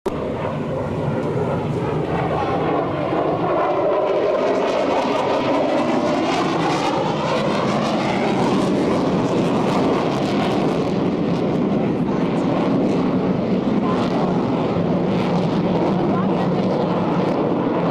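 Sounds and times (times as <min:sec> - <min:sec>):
aircraft flying past: 0:00.1 - 0:17.9.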